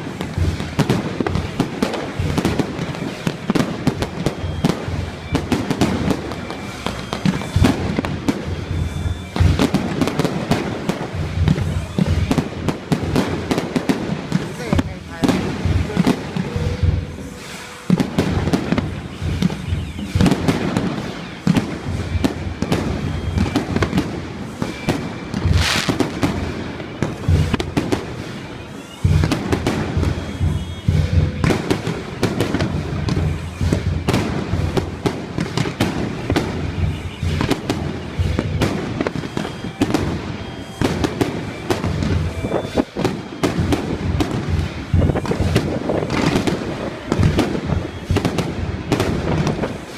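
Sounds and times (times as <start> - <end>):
fireworks crackling bangs: 0.0 - 49.9
loud firework bang: 0.0 - 49.9.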